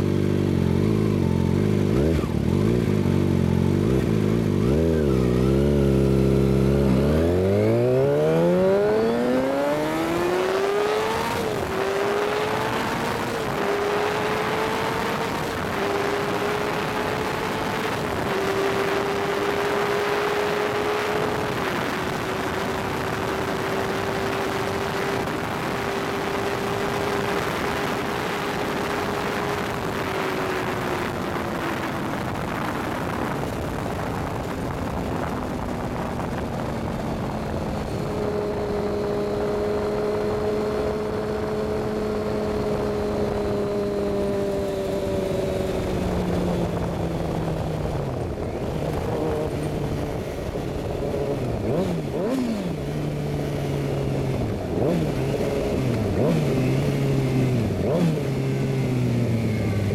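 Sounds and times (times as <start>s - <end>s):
motorcycle engine revving high: 0.0s - 59.9s
wind rush: 4.4s - 59.9s.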